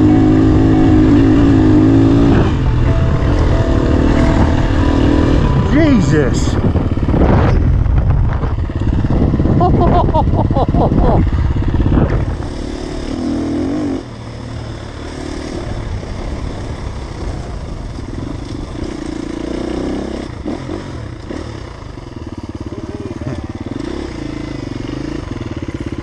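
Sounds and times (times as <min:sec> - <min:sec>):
dirt bike engine revving: 0:00.0 - 0:17.4, 0:18.4 - 0:26.0.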